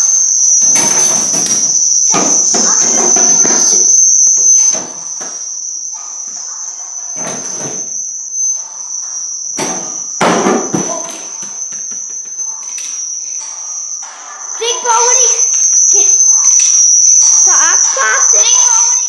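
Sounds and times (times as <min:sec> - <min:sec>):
steady high-pitched tone: 0:00.0 - 0:19.0.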